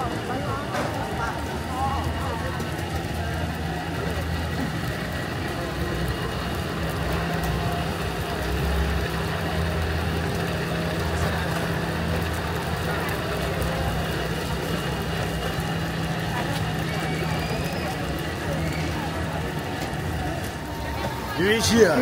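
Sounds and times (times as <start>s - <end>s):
busy outdoor background noise: 0.0s - 22.0s
low engine hum: 0.0s - 22.0s.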